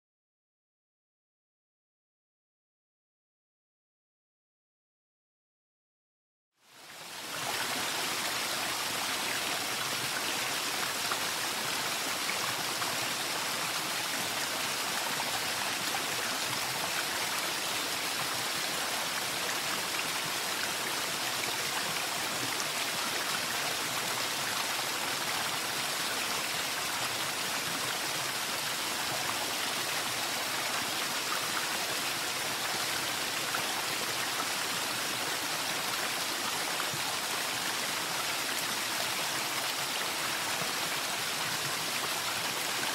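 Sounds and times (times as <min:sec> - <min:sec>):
running water rushing: 0:06.7 - 0:42.9.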